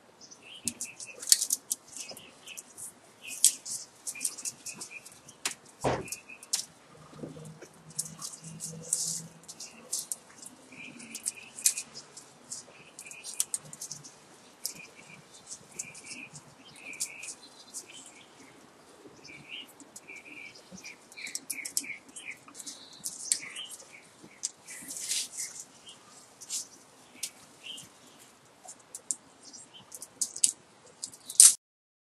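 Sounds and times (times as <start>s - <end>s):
wire clicking and scraping: 0.6s - 18.5s, 19.2s - 31.6s.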